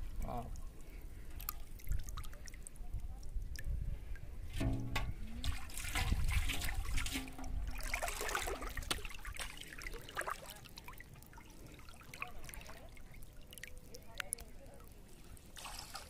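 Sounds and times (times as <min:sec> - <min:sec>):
small splashes: 0:00.5 - 0:16.0
river water sloshing: 0:00.6 - 0:03.5, 0:04.6 - 0:16.0.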